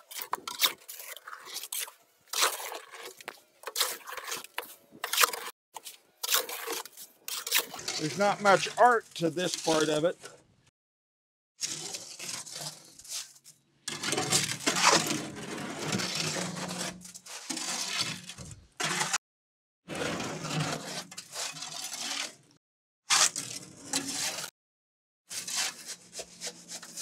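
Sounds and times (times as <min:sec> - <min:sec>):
shovel scraping wet concrete: 0:00.0 - 0:10.2, 0:11.6 - 0:19.2, 0:19.9 - 0:24.5, 0:25.3 - 0:27.0.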